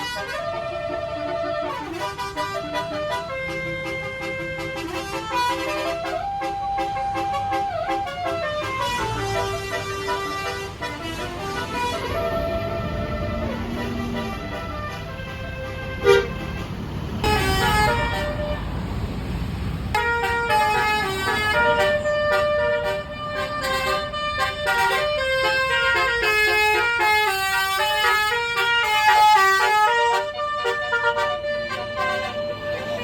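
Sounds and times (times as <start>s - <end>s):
bus musical horn melody: 0.0s - 33.0s
low rumble of engine and traffic: 0.0s - 33.0s.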